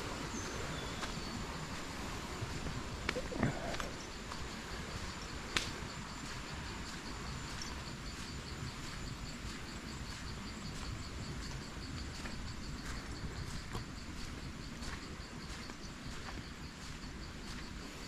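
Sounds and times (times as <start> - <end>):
low background hiss: 0.0 - 17.8
insects chirping: 0.0 - 18.0.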